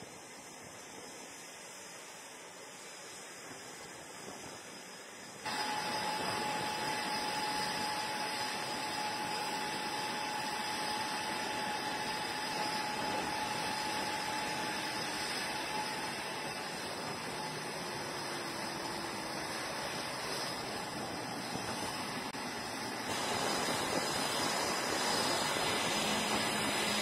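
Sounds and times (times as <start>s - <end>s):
machinery with high whine: 0.0s - 27.0s.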